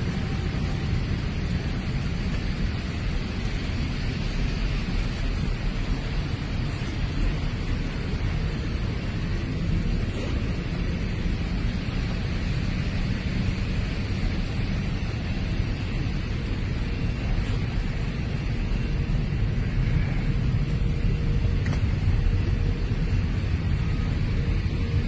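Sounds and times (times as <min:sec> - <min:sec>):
jet airliner engine noise: 0:00.0 - 0:25.0.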